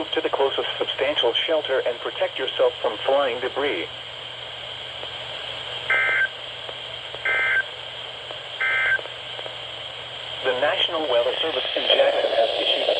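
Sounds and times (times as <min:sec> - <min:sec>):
radio hiss: 0:00.0 - 0:12.9.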